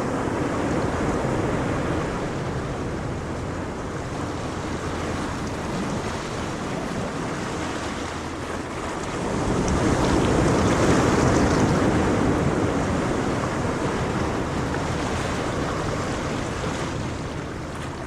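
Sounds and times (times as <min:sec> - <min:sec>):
ocean waves washing on shore: 0:00.0 - 0:18.0
wind noise on microphone: 0:00.0 - 0:18.0.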